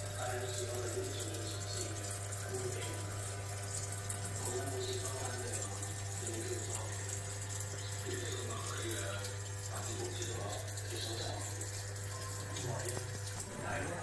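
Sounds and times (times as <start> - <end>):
water splashing in washing machine: 0.0 - 14.0.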